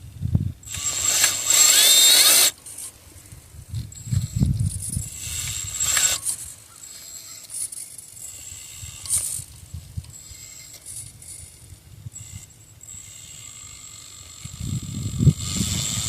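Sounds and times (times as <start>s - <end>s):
small electric motor whirring: 0.1s - 16.0s.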